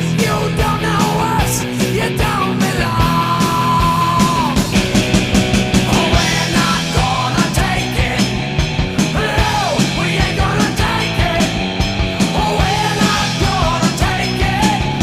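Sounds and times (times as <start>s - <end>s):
person singing and shouting: 0.0s - 4.9s, 5.7s - 15.0s
drums: 0.0s - 15.0s
guitar: 0.0s - 15.0s
punk rock song: 0.0s - 15.0s.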